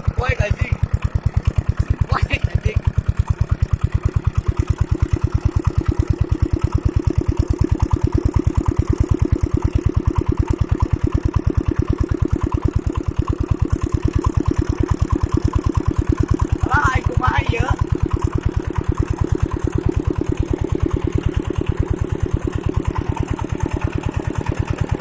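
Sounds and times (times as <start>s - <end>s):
water pump engine running: 0.0s - 25.0s.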